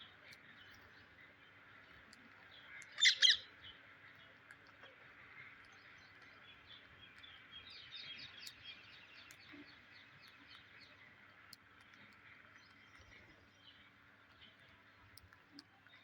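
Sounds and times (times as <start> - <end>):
bird chirping: 0.3 - 4.6, 5.3 - 15.2.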